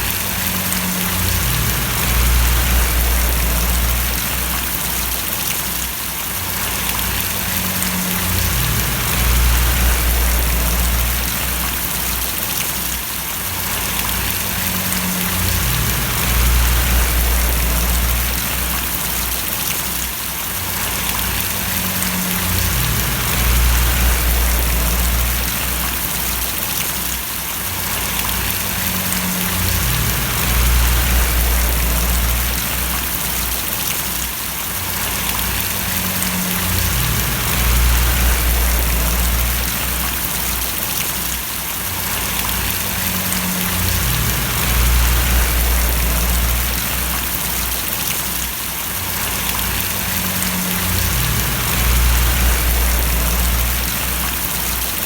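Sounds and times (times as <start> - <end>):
low rumble: 0.0 - 5.4, 6.6 - 12.4, 13.8 - 19.6, 20.8 - 26.6, 28.0 - 33.8, 35.1 - 40.8, 42.2 - 48.1, 49.2 - 55.0
rain falling and splashing: 0.0 - 55.0.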